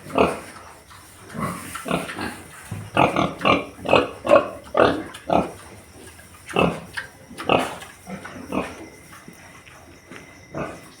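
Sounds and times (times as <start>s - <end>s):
pigs grunting and squealing: 0.0s - 9.7s, 10.5s - 11.0s.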